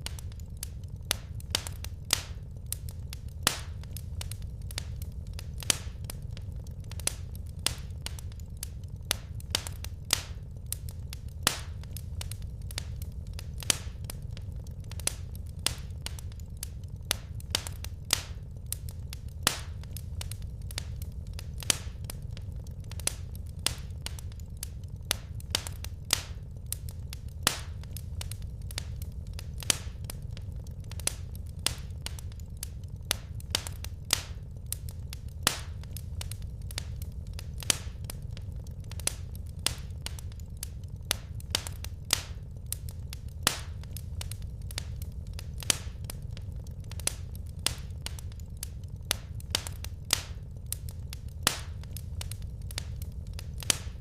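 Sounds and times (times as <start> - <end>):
low background noise of burning: 0.0 - 54.0
wood fire pops and snaps: 0.0 - 54.0.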